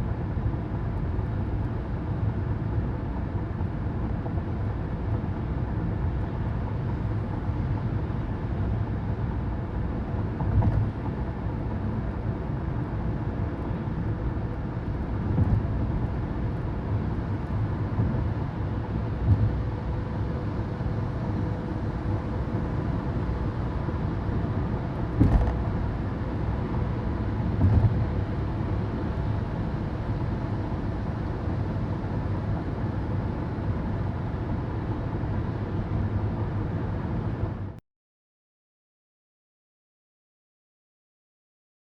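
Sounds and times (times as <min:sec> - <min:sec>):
car road and engine rumble: 0:00.0 - 0:37.8.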